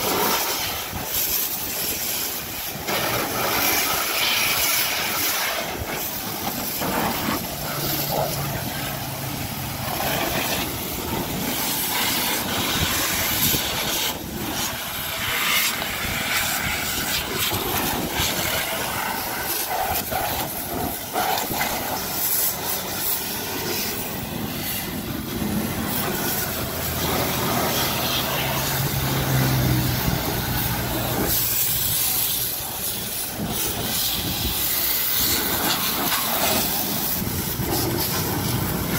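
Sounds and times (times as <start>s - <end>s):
hose water spraying on car: 0.0s - 38.9s.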